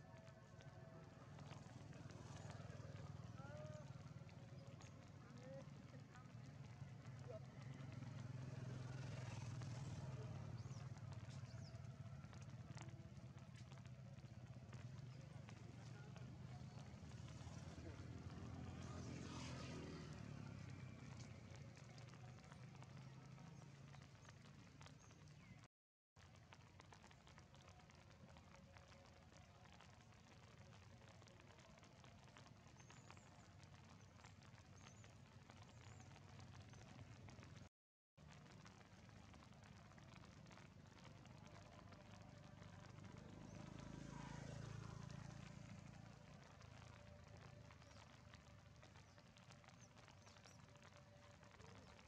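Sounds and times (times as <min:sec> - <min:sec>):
faint rain pattering: 0:00.0 - 0:52.0.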